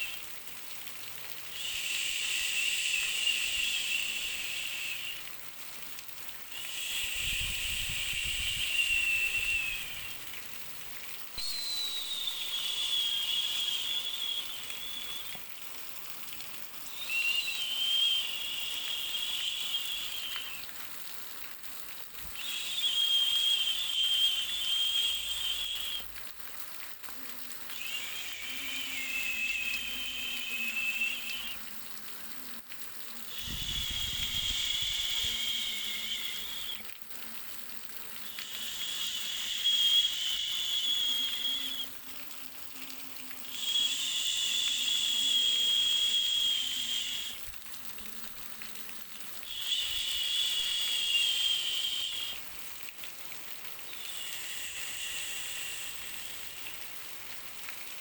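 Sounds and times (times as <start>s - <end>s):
high whistling tone over hiss: 0.0s - 0.3s, 1.4s - 5.3s, 6.5s - 15.6s, 16.2s - 20.8s, 22.2s - 26.3s, 27.2s - 32.6s, 33.2s - 37.0s, 38.1s - 57.4s.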